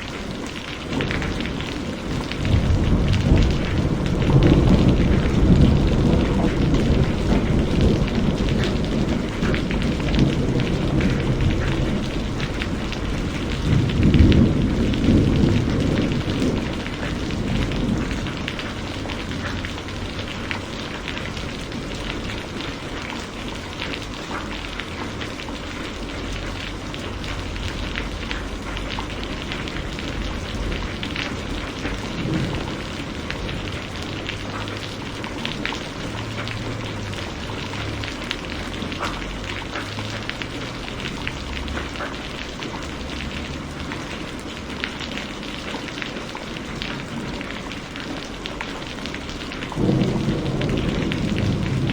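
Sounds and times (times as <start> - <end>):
heavy rain falling: 0.0 - 51.9
low rumble of thunder: 0.0 - 51.9.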